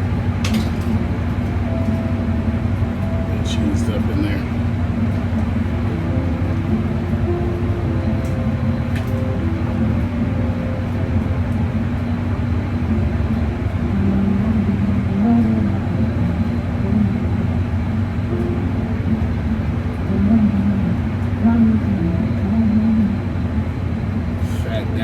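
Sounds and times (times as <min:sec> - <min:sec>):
low machine drone: 0:00.0 - 0:25.0.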